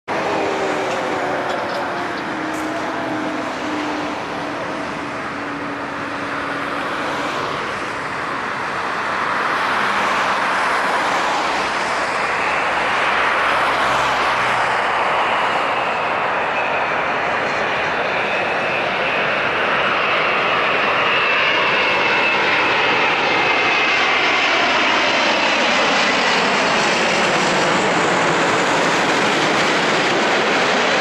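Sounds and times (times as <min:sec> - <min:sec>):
jet engines roaring: 0:00.1 - 0:31.0.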